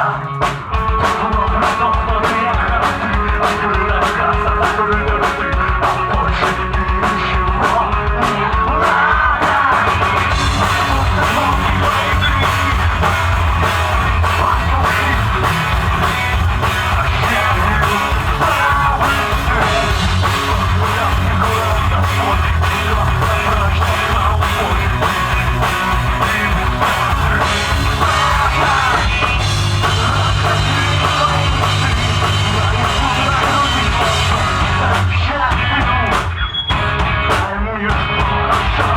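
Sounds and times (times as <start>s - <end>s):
person singing: 0.0s - 36.4s
drum kit beat: 0.0s - 38.9s
rock band playing live: 0.0s - 38.9s.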